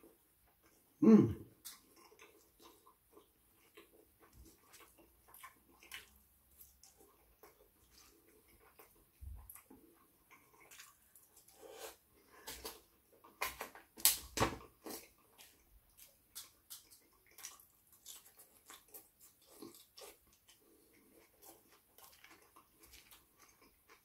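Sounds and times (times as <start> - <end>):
wet chewing and mouth smacking: 1.6 - 24.0.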